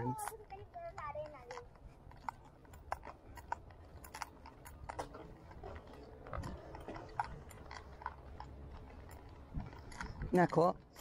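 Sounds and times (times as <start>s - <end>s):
carried gear rattling: 0.0s - 11.0s
footsteps on gritty road: 0.0s - 11.0s.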